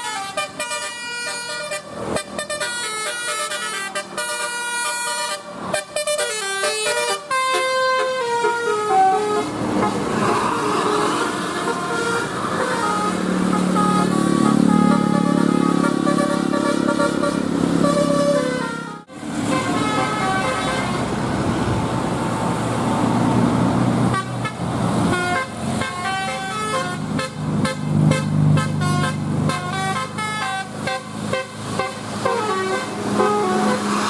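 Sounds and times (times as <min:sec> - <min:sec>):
multi-tone bus horn playing a tune: 0:00.0 - 0:21.4, 0:23.9 - 0:34.0
engine noise: 0:00.0 - 0:34.0.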